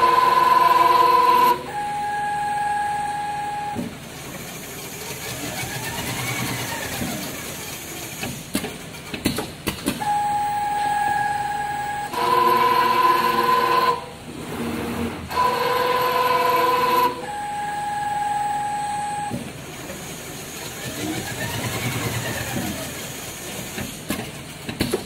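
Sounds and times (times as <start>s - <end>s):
sewing machine motor whine: 0.0s - 8.4s, 10.0s - 23.7s.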